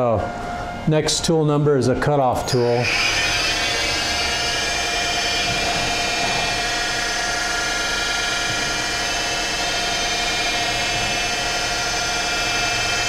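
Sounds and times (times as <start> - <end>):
lathe machine whine: 0.0 - 13.0
low machine hum: 0.0 - 13.0.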